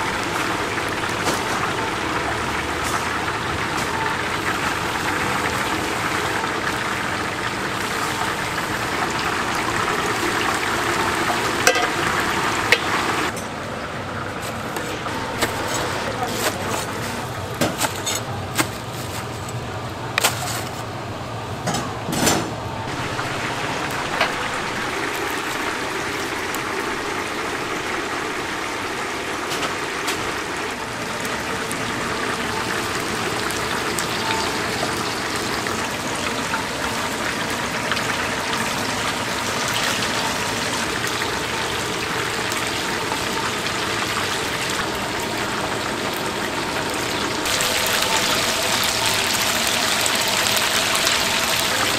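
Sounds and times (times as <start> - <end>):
oil sizzling in deep fryer: 0.0 - 19.9, 22.8 - 51.9.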